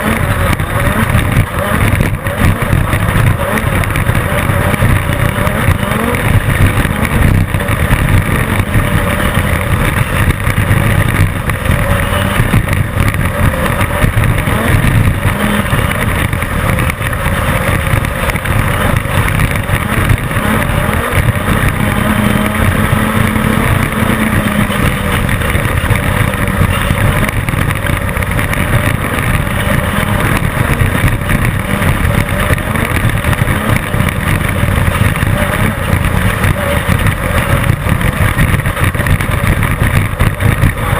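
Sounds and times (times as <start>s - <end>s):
low rumble and rattle: 0.0s - 40.9s
race car engine roaring: 0.0s - 40.9s.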